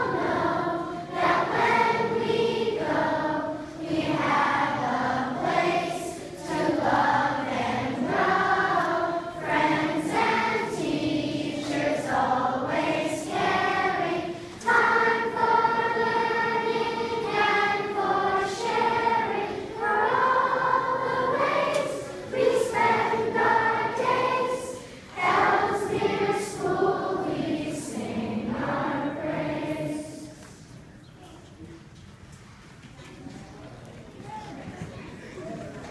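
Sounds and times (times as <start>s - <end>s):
children and adults singing: 0.0s - 30.8s.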